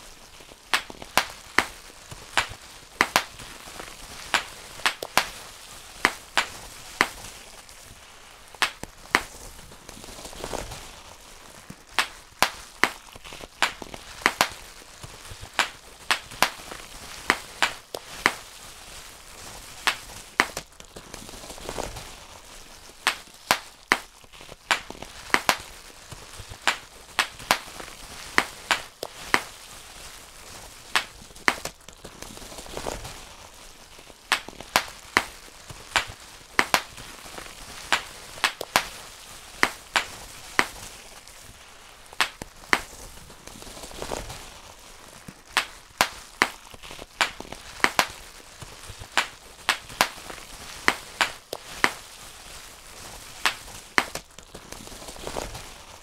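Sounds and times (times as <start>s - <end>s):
bubble wrap popping: 0.0s - 56.0s
plastic sheet crinkling: 0.0s - 56.0s.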